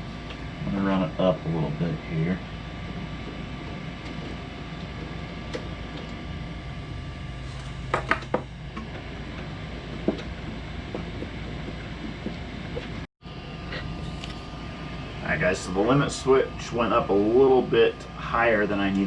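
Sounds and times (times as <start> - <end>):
cooling fans whirring: 0.0 - 19.0.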